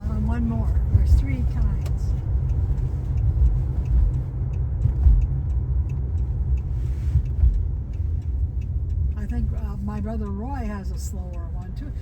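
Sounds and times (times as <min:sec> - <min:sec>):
car engine and road rumble: 0:00.0 - 0:12.0
faint ticks: 0:00.2 - 0:12.0.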